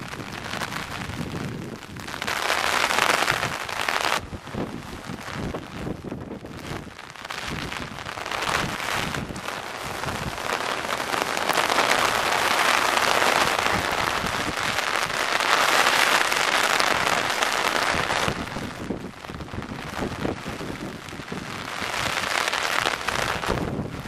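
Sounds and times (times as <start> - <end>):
rain pattering on an umbrella: 0.0 - 24.0.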